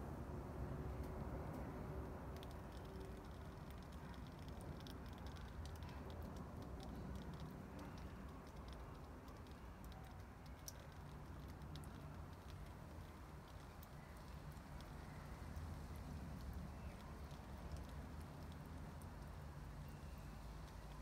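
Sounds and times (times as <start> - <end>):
low background rumble: 0.0 - 21.0
water dripping on wood: 0.9 - 21.0.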